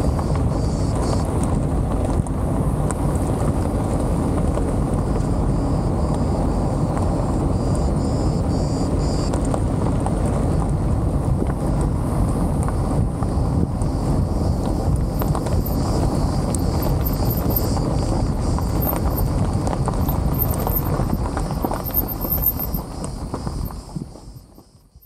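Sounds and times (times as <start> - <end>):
tyre and road rumble: 0.0 - 25.0.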